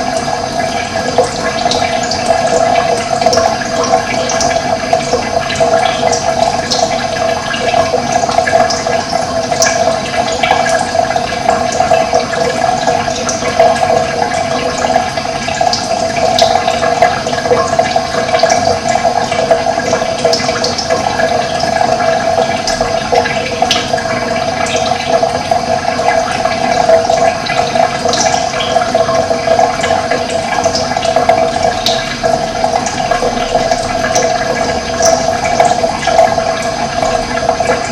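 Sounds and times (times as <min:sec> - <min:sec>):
running water: 0:00.0 - 0:37.9.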